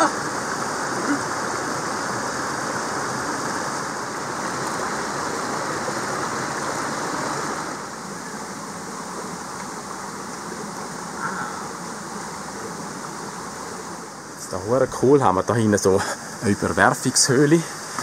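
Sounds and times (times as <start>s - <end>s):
stream rushing over boulders: 0.0s - 11.8s, 12.9s - 18.0s.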